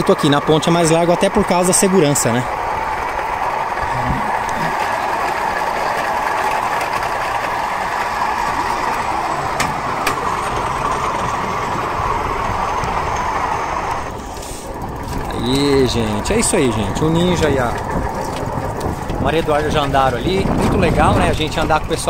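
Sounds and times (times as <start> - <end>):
wheels rolling on rails: 0.0 - 22.0.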